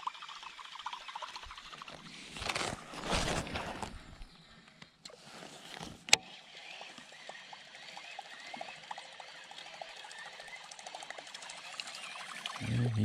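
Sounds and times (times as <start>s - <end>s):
small irregular ticks: 0.0s - 12.7s
faint water sounds: 0.0s - 13.0s.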